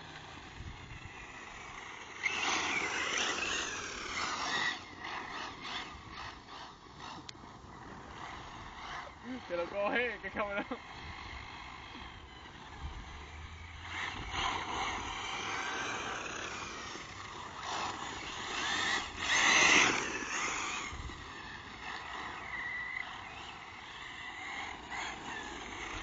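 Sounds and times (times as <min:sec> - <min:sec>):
rc car electric motor whine: 0:00.0 - 0:26.0.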